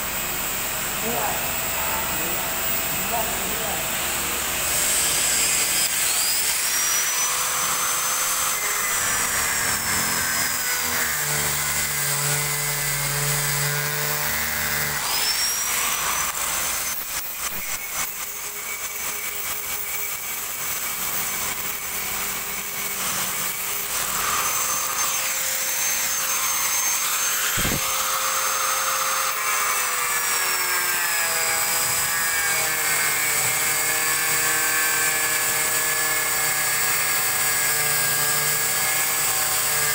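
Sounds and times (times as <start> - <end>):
angle grinder grinding acrylic: 1.0 - 39.9.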